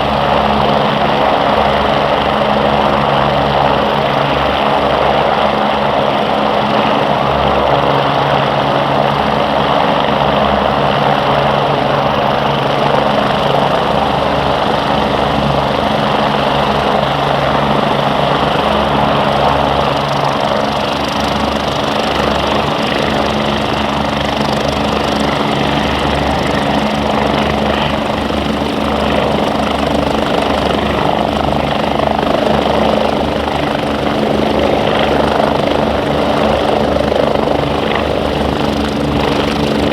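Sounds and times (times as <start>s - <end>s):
helicopter rotor throb: 0.0s - 39.9s
helicopter turbine whine: 0.0s - 39.9s.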